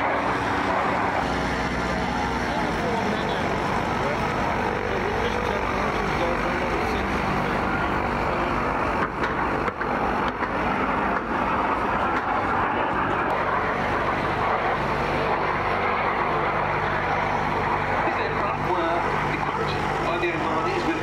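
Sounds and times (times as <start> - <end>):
jet aircraft flying overhead: 0.0 - 21.0.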